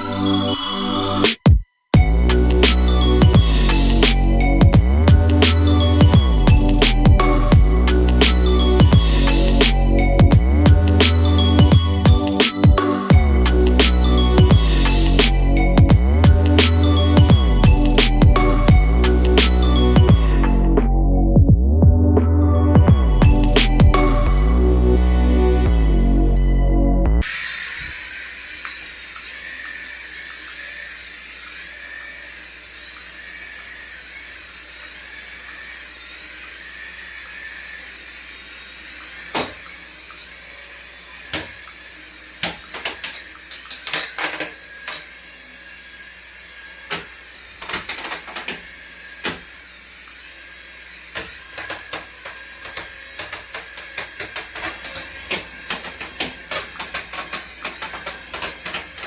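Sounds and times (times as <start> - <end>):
toy electric motor whining: 0.0 - 1.3, 2.0 - 20.1, 27.2 - 59.0.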